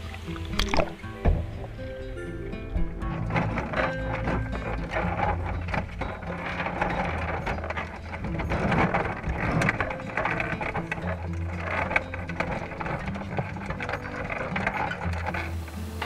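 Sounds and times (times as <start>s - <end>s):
underwater clicking and rattling: 0.0s - 16.0s.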